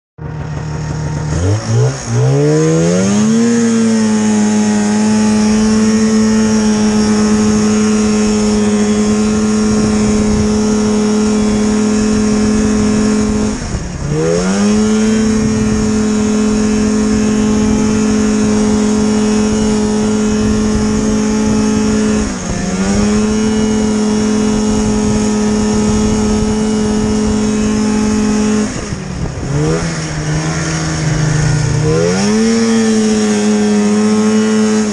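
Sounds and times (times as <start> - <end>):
snowmobile engine revving: 0.2 - 34.9
wind and track noise: 0.2 - 34.9.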